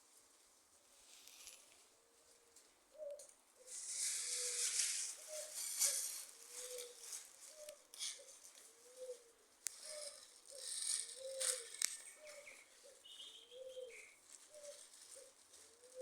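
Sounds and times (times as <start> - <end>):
rustling: 0.0 - 2.8, 3.6 - 16.0
bird cooing: 2.5 - 16.0.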